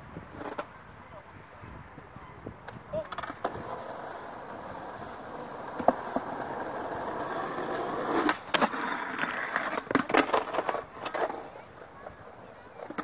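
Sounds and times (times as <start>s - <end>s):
skateboard wheels rolling on asphalt: 0.0s - 13.0s
skateboard clacking on ground: 0.2s - 0.7s, 2.6s - 13.0s.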